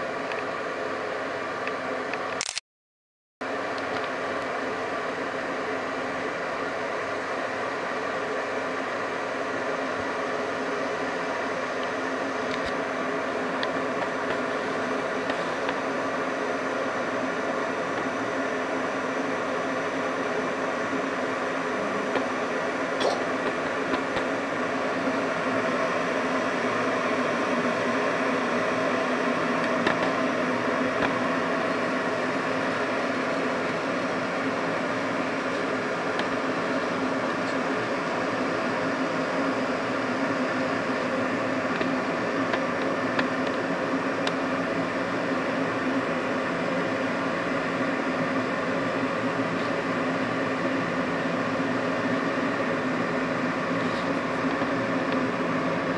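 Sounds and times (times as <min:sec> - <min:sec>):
kettle heating water: 0:03.4 - 0:55.9.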